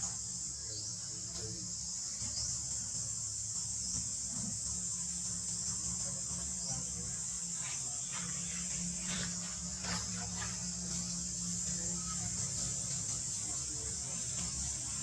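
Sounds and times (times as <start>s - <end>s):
insects droning: 0.0s - 15.0s
low outdoor rumble: 0.0s - 15.0s.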